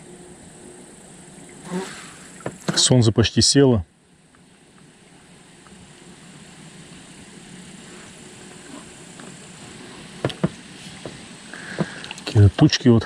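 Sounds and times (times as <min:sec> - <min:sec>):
distant engine droning: 0:00.0 - 0:03.0, 0:03.9 - 0:12.6.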